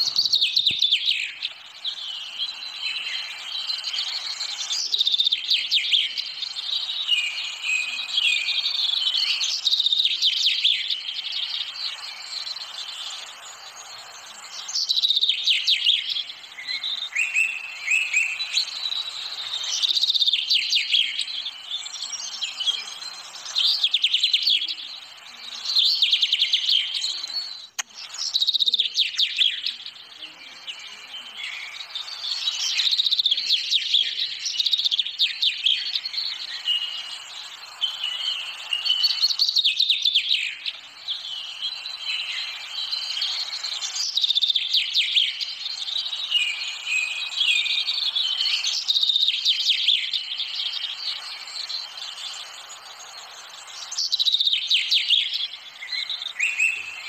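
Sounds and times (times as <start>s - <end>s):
songbirds chirping and trilling: 0.0s - 57.0s.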